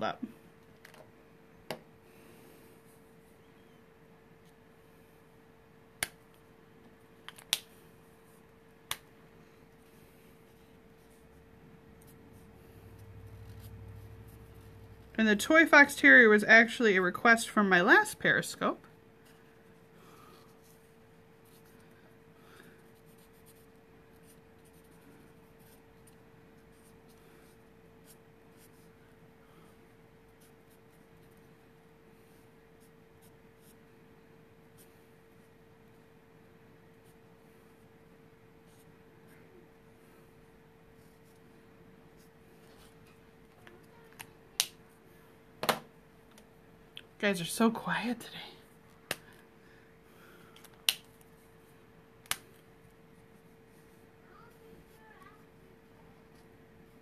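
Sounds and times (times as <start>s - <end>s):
steady hum: 0.0s - 54.5s.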